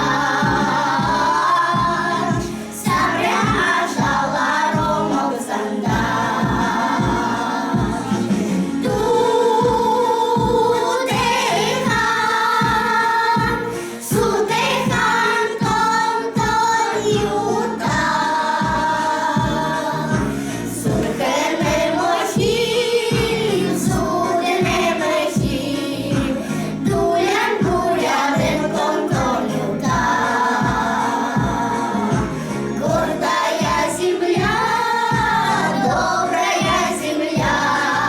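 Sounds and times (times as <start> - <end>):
backing track with steady beat: 0.0 - 38.0
vocal ensemble singing: 0.0 - 38.0.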